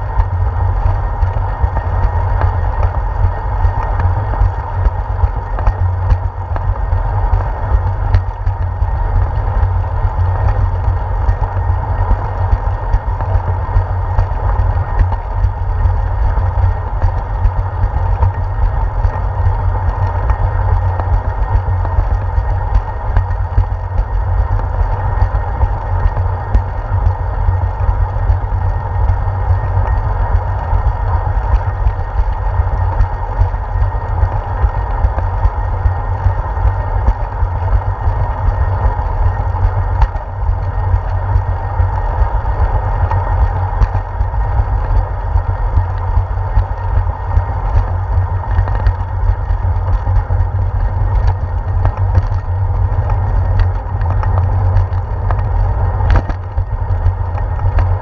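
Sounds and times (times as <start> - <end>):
low rumble of wind and vibration: 0.0 - 58.0.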